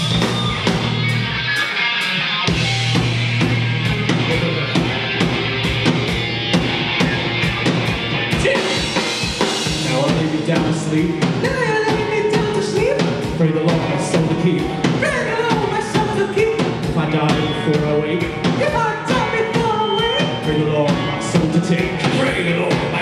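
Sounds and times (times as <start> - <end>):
drum kit beat: 0.0 - 23.0
rock band playing live: 0.0 - 23.0.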